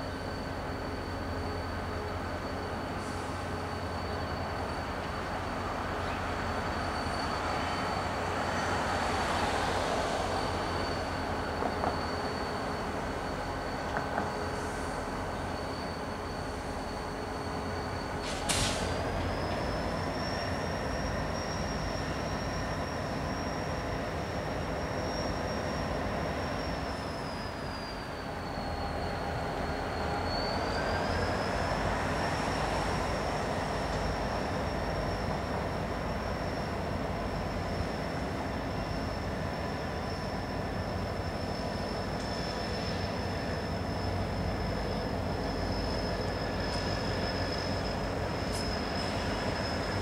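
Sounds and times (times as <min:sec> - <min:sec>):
low train rumble: 0:00.0 - 0:50.0
train wheel flange squeal: 0:00.0 - 0:50.0.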